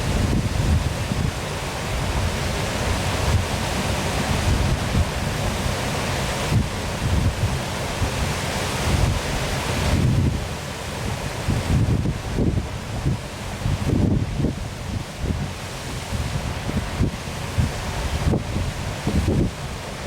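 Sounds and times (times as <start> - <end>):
wind buffeting microphone: 0.0 - 3.6, 4.3 - 5.8, 6.5 - 8.3, 8.9 - 10.6, 11.4 - 19.8
waterfall rushing: 0.0 - 20.0.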